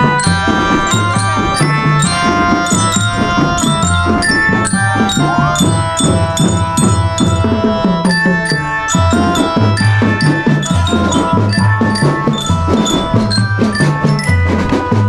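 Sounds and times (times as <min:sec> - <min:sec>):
drums beating steady rhythm: 0:00.0 - 0:15.0
sustained stepwise melody: 0:00.0 - 0:15.0.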